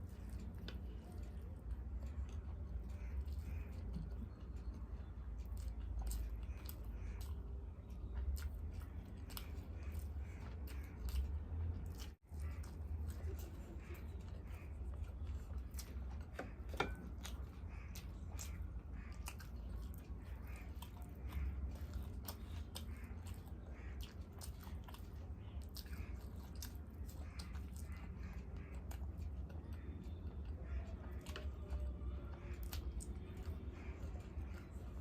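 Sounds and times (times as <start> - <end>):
chewing with wet mouth clicks: 0.0 - 35.0.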